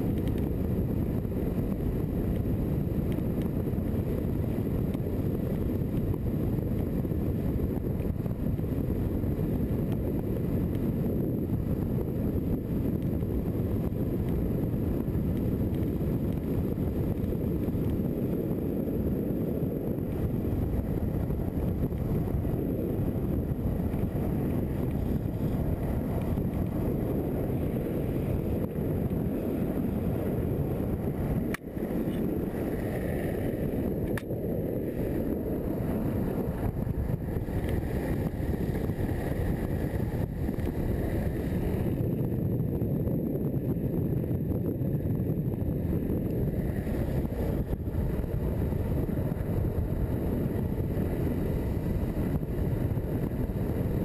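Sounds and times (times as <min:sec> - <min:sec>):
longboard wheels rolling on asphalt: 0:00.0 - 0:54.0
wind buffeting microphone: 0:00.0 - 0:54.0.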